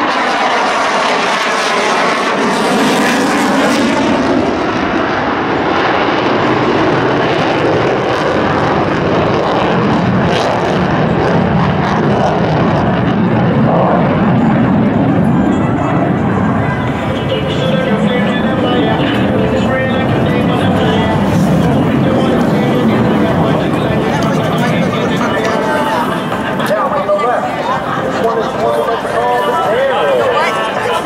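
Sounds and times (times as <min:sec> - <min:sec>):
jet engines roaring past: 0:00.0 - 0:31.0.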